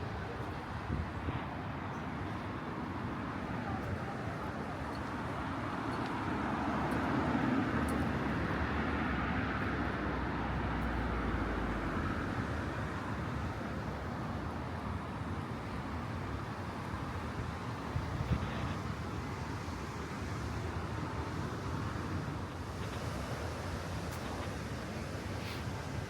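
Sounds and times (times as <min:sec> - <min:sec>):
street traffic background: 0:00.0 - 0:26.0.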